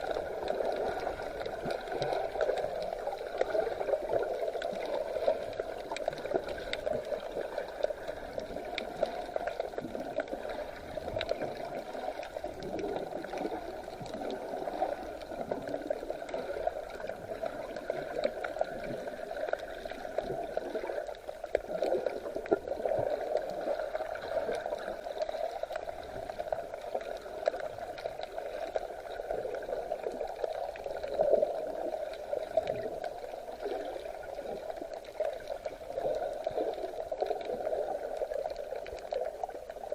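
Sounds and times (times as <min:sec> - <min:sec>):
sea water gurgling and sloshing: 0:00.0 - 0:39.9.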